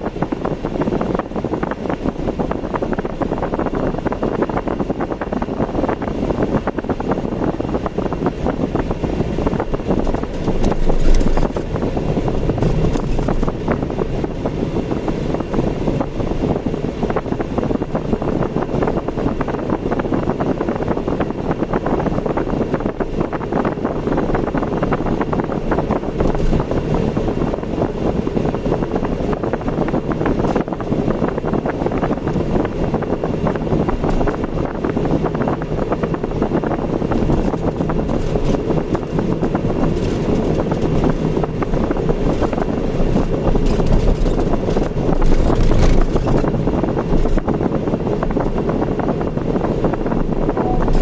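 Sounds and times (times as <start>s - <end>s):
car road and engine noise: 0.0s - 51.0s
wind rumbling on microphone: 0.0s - 51.0s.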